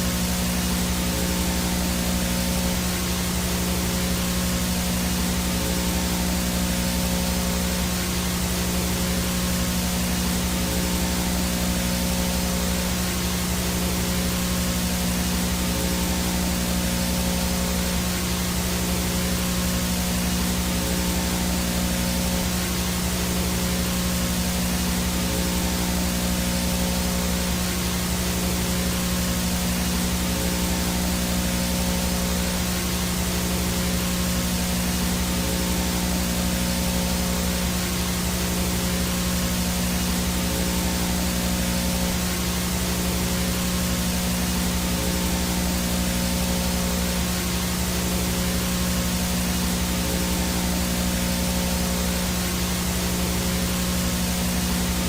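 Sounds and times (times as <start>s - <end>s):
static hiss: 0.0s - 55.0s
thin high whine: 0.0s - 55.0s.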